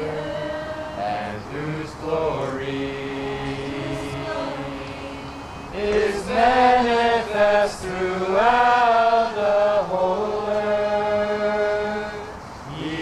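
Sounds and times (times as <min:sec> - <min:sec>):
voices singing slow song: 0:00.0 - 0:13.0.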